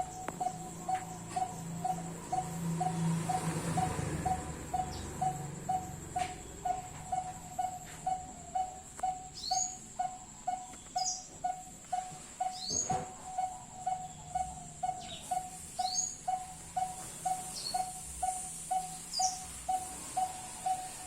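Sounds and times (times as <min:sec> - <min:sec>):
higher sweeping bird chirps: 0:00.0 - 0:21.0.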